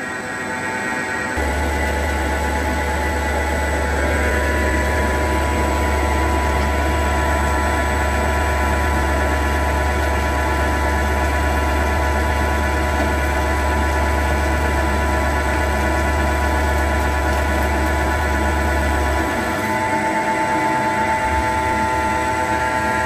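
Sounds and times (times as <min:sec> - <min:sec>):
lathe cutting metal hum: 0:00.0 - 0:23.0.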